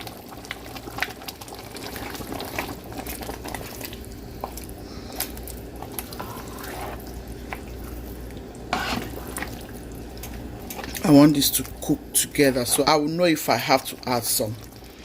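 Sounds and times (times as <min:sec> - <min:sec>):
soup bubbling: 0:00.0 - 0:15.0.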